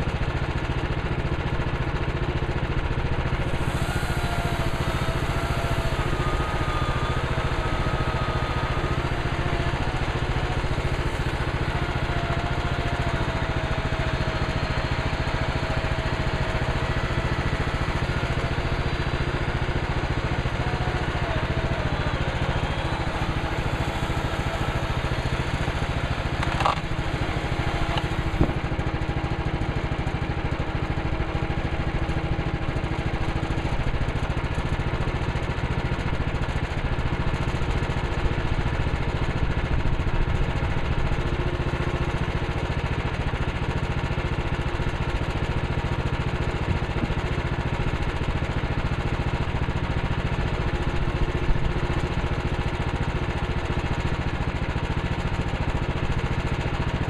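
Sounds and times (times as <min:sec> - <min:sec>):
gasoline engine running: 0:00.0 - 0:57.0.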